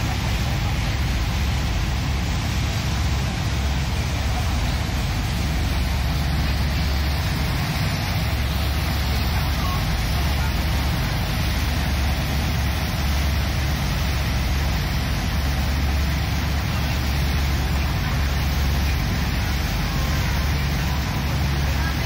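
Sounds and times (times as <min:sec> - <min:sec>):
boat engine drone: 0:00.0 - 0:22.0
water rushing noise: 0:00.0 - 0:22.0.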